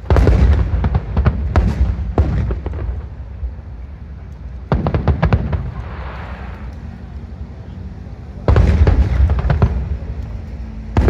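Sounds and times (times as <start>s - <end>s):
hissing crackle: 0.0s - 10.8s
fireworks booming bangs: 0.0s - 11.0s.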